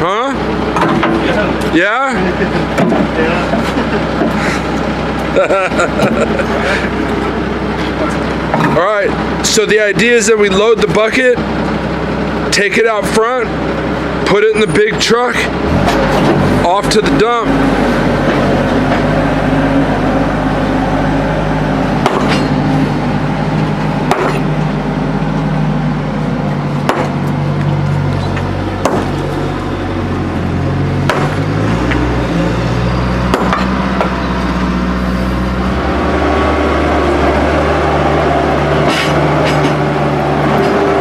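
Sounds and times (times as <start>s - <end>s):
loader engine running: 0.0s - 41.0s.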